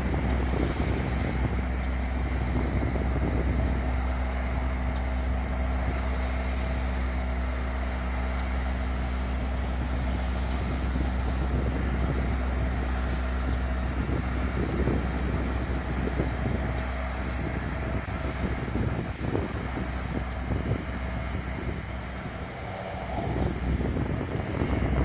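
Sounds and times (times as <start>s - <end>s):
distant diesel machinery rumble: 0.0s - 25.0s.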